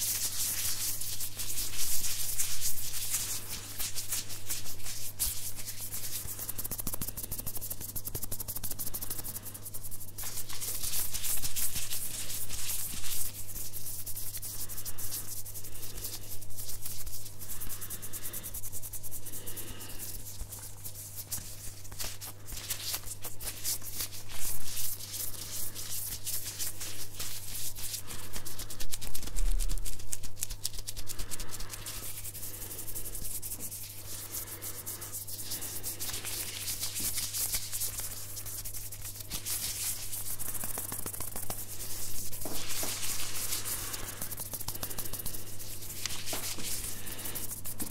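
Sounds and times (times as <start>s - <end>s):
hands rubbing on microphone: 0.0s - 47.9s
plastic glove crinkling: 0.0s - 47.9s.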